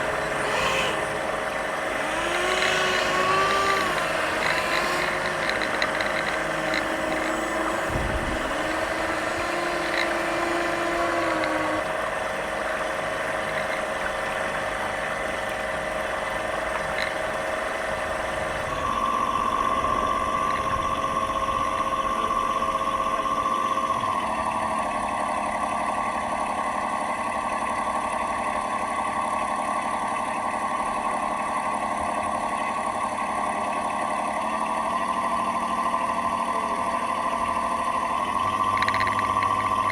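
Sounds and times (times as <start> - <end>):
model boat engine sound: 0.0 - 39.9.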